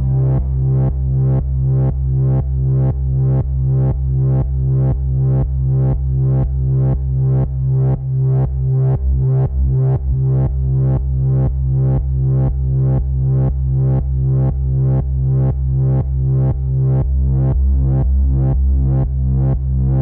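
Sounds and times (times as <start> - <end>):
deep repeating synthesizer note: 0.0 - 20.0.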